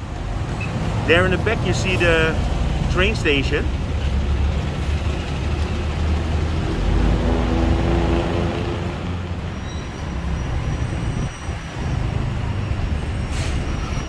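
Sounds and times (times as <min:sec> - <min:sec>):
traffic rumble: 0:00.0 - 0:14.0
vehicle engine: 0:00.0 - 0:14.0.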